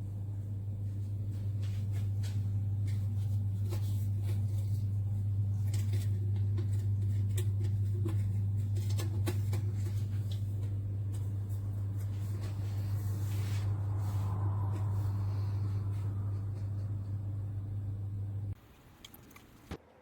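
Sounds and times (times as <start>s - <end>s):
small pump humming: 0.0s - 19.7s.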